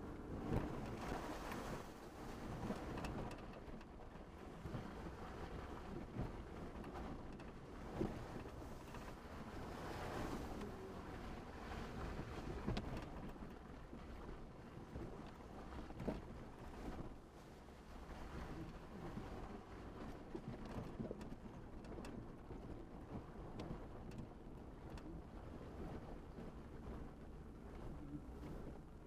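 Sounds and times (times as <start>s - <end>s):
engine and tyres rumbling: 0.0s - 29.0s.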